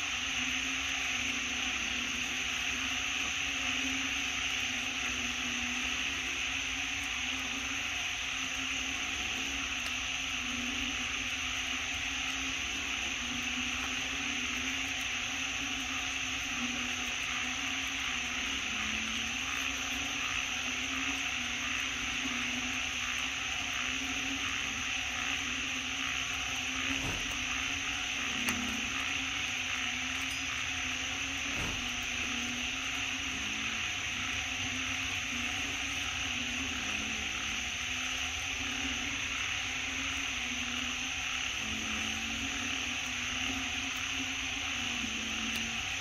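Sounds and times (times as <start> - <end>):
even hiss: 0.0 - 46.0
low wavering hum: 0.0 - 46.0.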